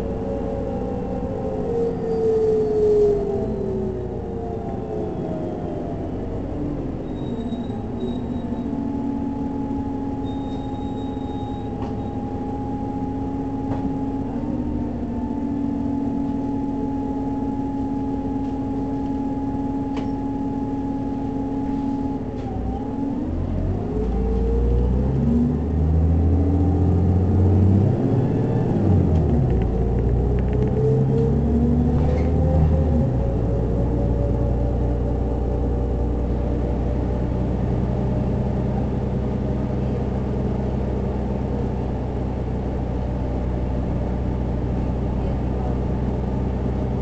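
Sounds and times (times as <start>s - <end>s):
bus engine rumble: 0.0s - 47.0s
bus transmission whine: 0.0s - 47.0s.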